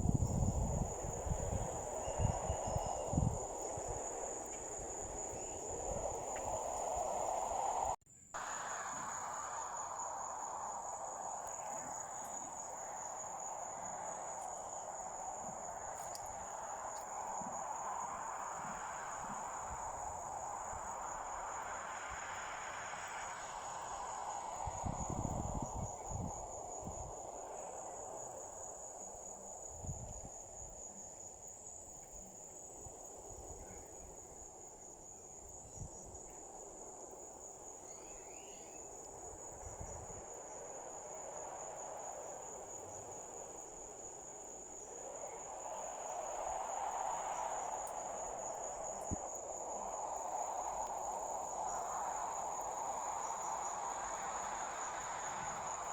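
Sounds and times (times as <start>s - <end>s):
crickets trilling: 0.0s - 55.9s
low hiss: 0.0s - 55.9s.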